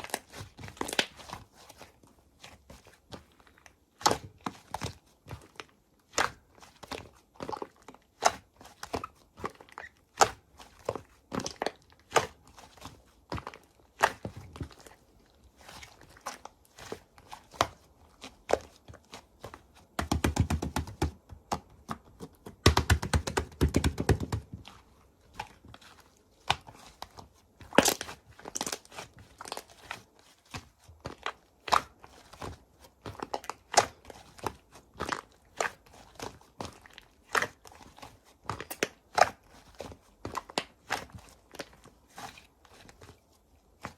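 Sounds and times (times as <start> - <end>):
slime squishing: 0.0 - 43.9.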